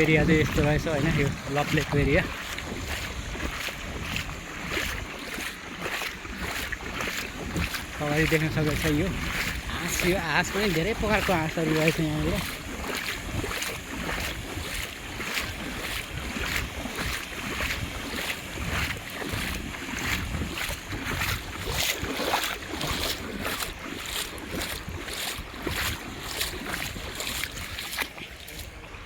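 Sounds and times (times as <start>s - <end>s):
footsteps splashing in water: 0.0s - 29.0s
wind rumbling on microphone: 0.0s - 29.0s.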